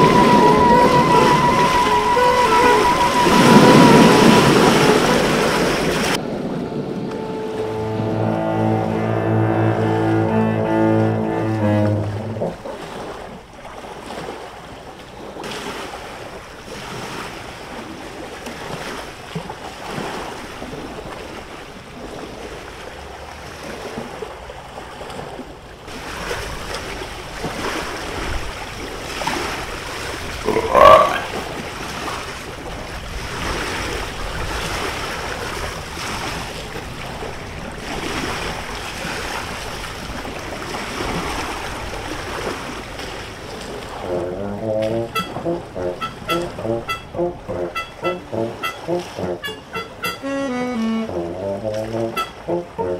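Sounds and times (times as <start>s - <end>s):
sea waves surf: 0.0s - 52.9s.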